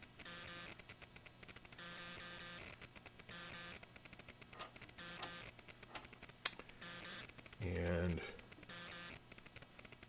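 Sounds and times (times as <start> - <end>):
electrical hum with crackle: 0.0 - 10.0.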